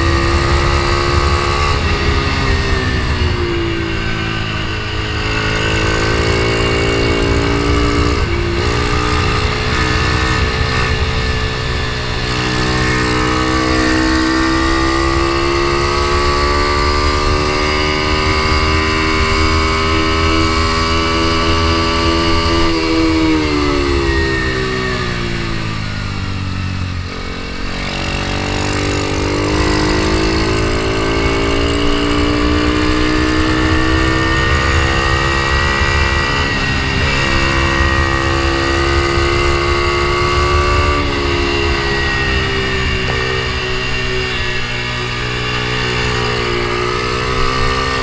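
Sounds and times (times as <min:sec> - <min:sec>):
motorcycle engine at racing speed: 0:00.0 - 0:48.0.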